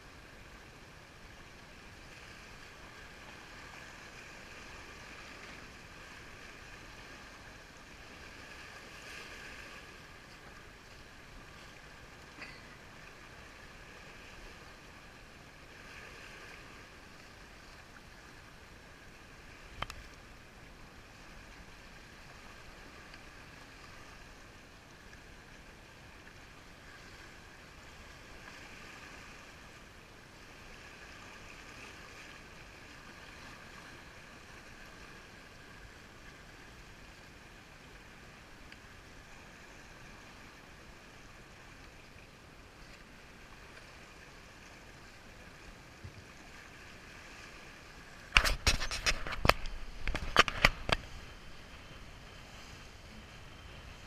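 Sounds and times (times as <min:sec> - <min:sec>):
water rushing along a hull: 0:00.0 - 0:54.0.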